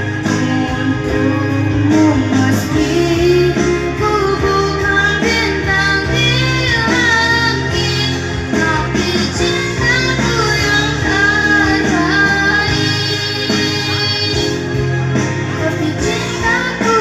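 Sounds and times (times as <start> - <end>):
person singing: 0.0 - 14.7, 15.5 - 17.0
instrumental backing music: 0.0 - 17.0.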